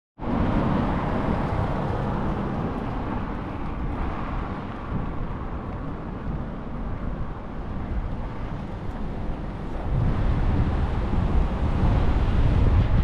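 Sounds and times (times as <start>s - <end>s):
low street rumble: 0.2s - 13.0s.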